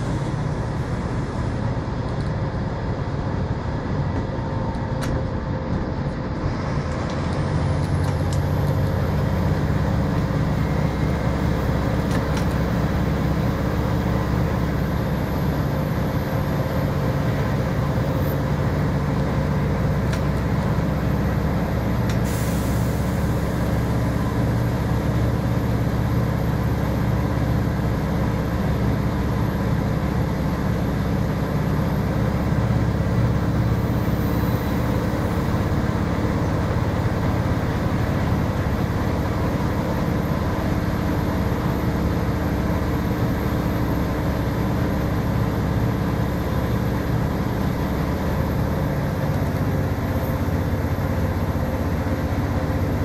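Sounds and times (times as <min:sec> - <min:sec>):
diesel engine running: 0:00.0 - 0:53.0
road noise: 0:00.0 - 0:53.0.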